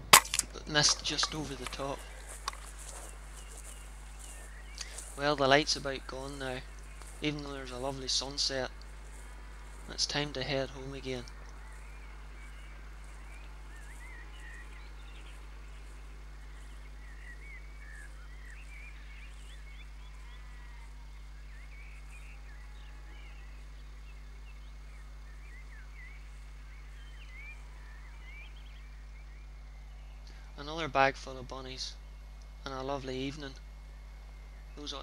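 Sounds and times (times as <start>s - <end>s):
birds chirping and twittering: 0.0s - 35.0s
steady low hum: 0.0s - 35.0s.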